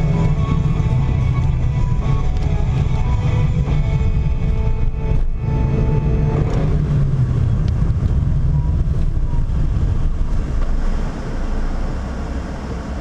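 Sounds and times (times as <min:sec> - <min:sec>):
car interior driving rumble: 0:00.0 - 0:13.0.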